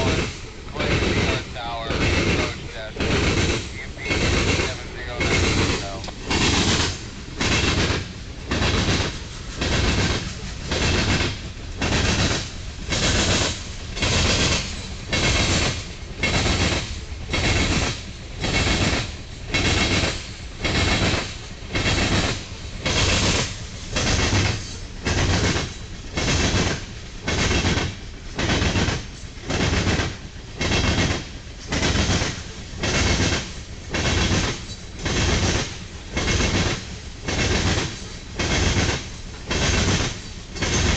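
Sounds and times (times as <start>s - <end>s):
train cars rolling rumble: 0.0s - 40.9s
train wheels clattering over rails: 0.0s - 40.9s.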